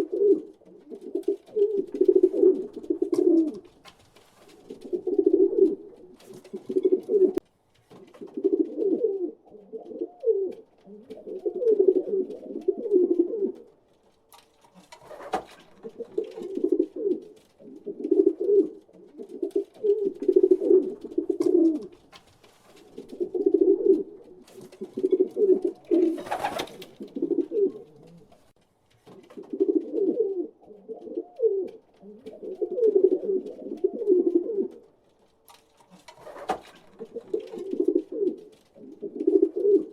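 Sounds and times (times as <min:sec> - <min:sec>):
pigeons cooing: 0:00.0 - 0:03.8, 0:04.5 - 0:07.4, 0:08.1 - 0:13.8, 0:15.0 - 0:22.1, 0:22.8 - 0:28.5, 0:29.2 - 0:34.9, 0:35.9 - 0:39.9.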